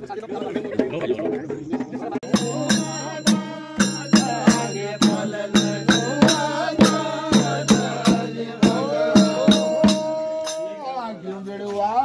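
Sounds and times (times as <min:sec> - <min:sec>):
dhol drum beating: 0:00.4 - 0:11.1
men singing in chorus: 0:02.2 - 0:12.0.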